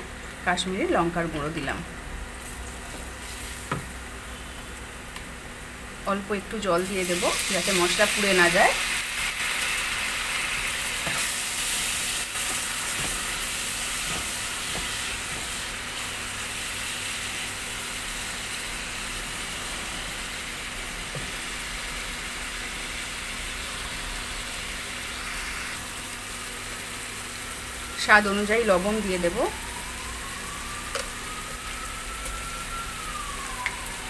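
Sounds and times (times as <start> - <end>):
spices sizzling in hot oil: 2.3 - 34.0.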